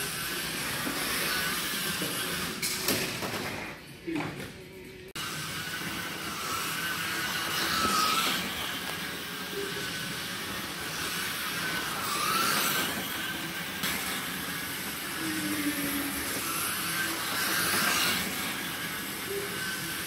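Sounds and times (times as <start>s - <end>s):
slot car motor whine: 0.0s - 2.7s, 5.2s - 20.0s.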